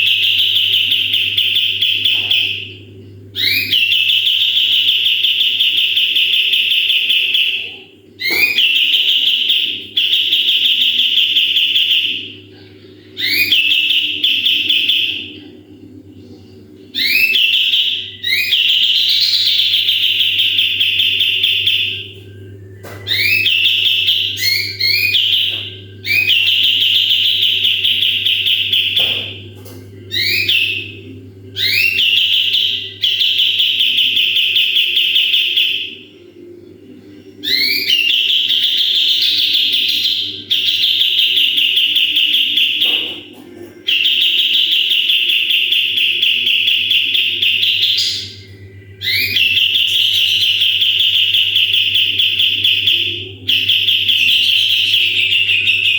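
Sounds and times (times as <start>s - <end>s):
songbird buzzy trills: 0.0s - 55.9s.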